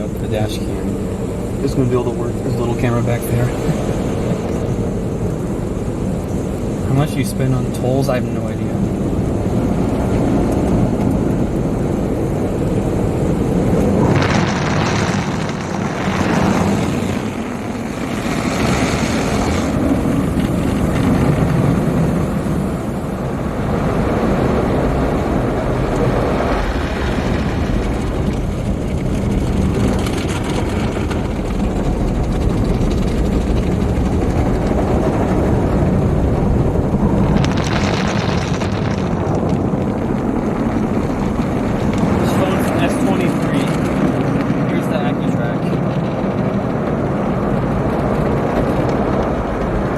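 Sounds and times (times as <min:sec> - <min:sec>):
car wash water and machinery: 0:00.0 - 0:49.9.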